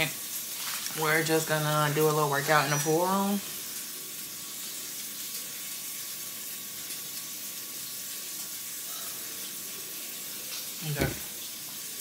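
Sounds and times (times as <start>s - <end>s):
bacon sizzling in a pan: 0.0s - 12.0s.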